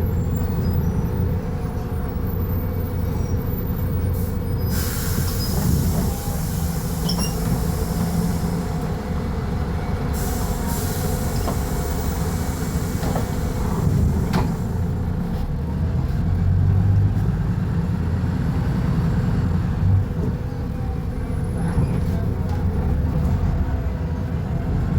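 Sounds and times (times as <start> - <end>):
bus diesel engine droning: 0.0 - 24.9.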